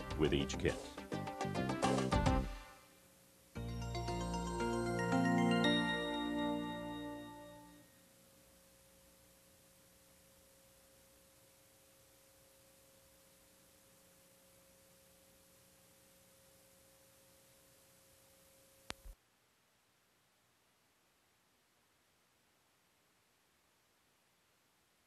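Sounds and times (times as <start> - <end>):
tape hiss: 0.0 - 25.0
faint steady hum tone: 2.4 - 25.0.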